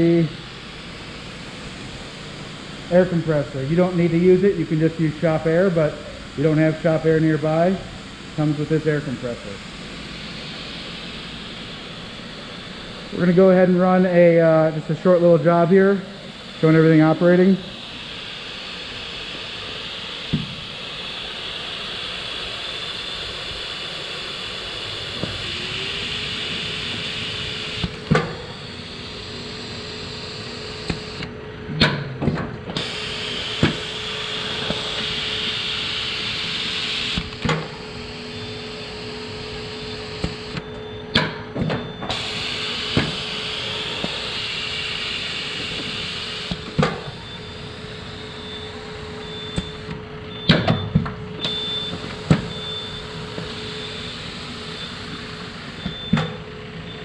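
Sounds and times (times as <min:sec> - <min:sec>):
laminator whirring: 0:00.0 - 0:57.0.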